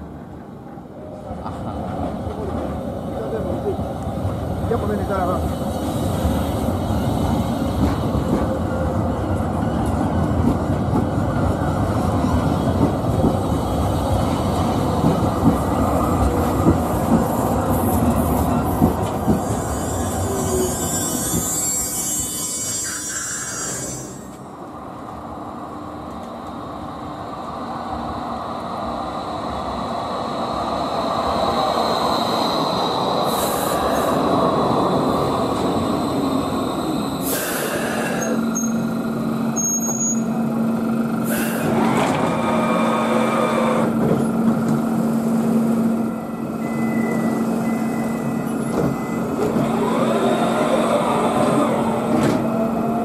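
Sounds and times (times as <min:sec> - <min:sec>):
tram low hum: 0:00.0 - 0:53.0
tram rumbling: 0:00.0 - 0:53.0.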